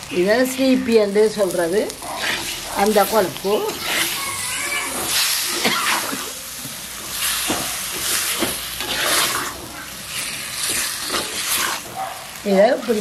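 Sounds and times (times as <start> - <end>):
fat sizzling in hot oil: 0.0 - 13.0.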